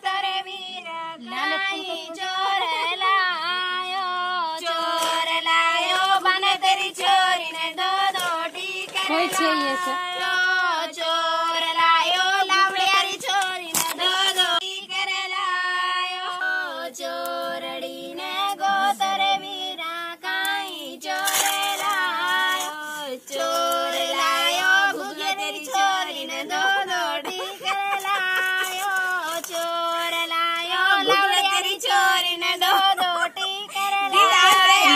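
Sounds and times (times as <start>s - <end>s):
women singing held notes: 0.0s - 34.9s.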